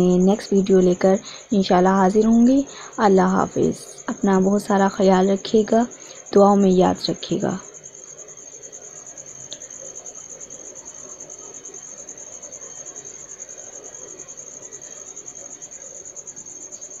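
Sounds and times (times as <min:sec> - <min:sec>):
cricket chirping: 0:00.0 - 0:17.0
faint background hiss: 0:00.0 - 0:17.0.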